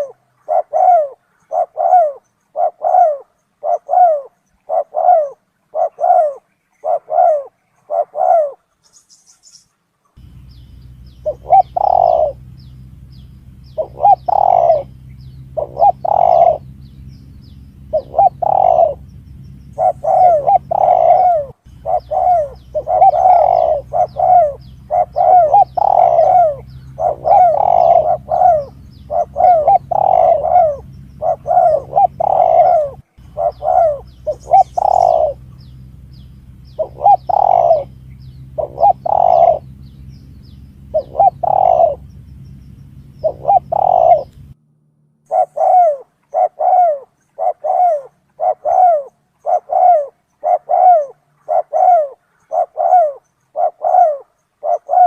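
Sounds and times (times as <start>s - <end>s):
dove cooing: 0.0s - 8.8s, 10.2s - 44.6s, 45.3s - 55.0s
low steady hum: 0.0s - 55.0s.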